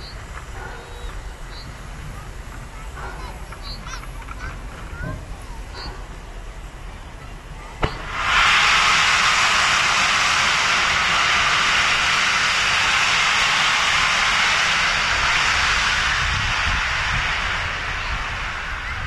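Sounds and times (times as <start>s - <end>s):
locomotive steam hissing: 0.0s - 19.0s.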